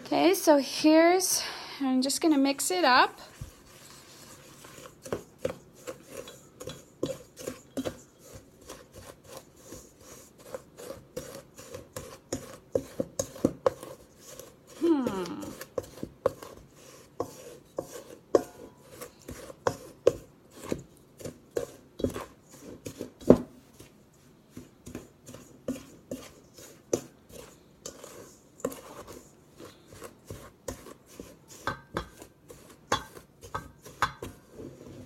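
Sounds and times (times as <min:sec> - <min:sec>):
utensil scraping powder in bowl: 0:02.1 - 0:35.0.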